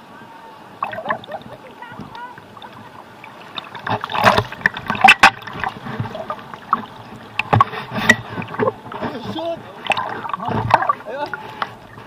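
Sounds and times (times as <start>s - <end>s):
seawater splashing against camera: 0.7s - 12.0s.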